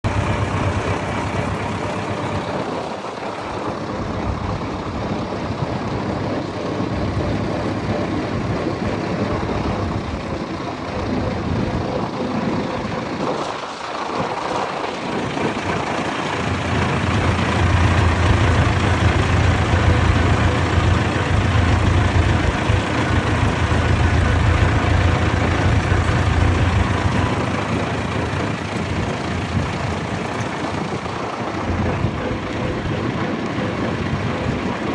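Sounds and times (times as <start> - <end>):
deep engine note: 0.0 - 12.1, 15.5 - 34.9
tractor engines running: 0.0 - 34.9.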